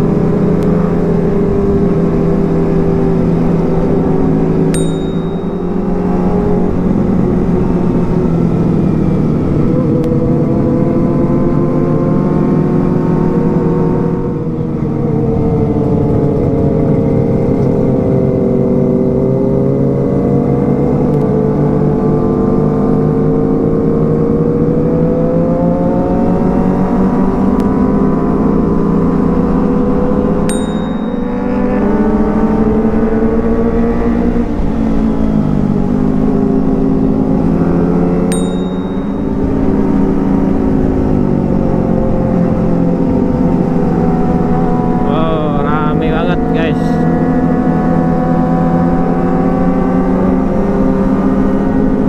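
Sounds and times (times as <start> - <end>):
motorcycle engine running: 0.0 - 45.6.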